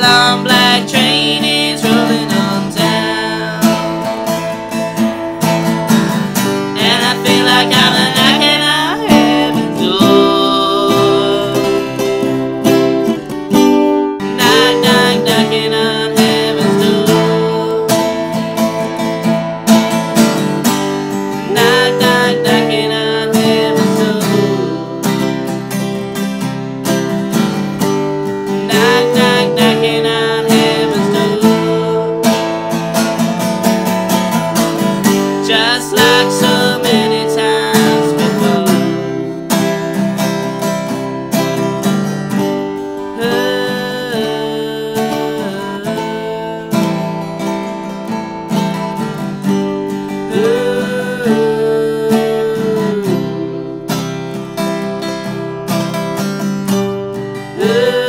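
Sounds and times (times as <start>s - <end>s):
person singing: 0.0s - 26.4s, 27.4s - 42.0s, 42.8s - 49.3s, 49.9s - 56.0s, 57.1s - 58.0s
acoustic guitar strumming: 0.0s - 58.0s.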